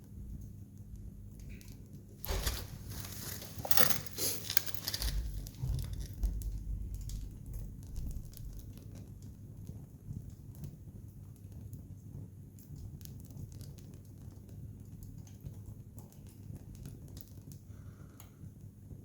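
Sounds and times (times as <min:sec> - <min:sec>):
wood fire crackling: 0:00.1 - 0:19.0.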